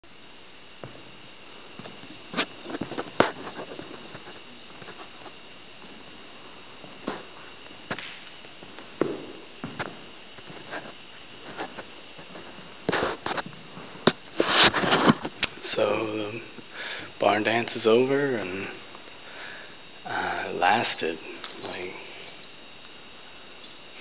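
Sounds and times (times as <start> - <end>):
night insects chirring: 0.0 - 24.0.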